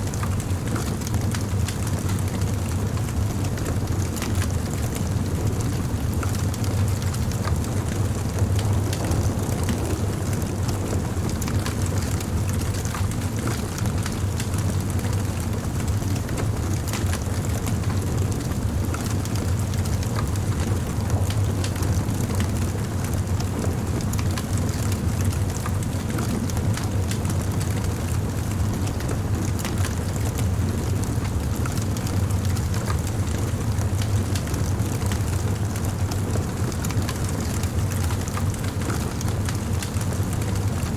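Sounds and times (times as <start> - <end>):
low fire rumble: 0.0 - 40.9
campfire crackling and popping: 5.5 - 40.8.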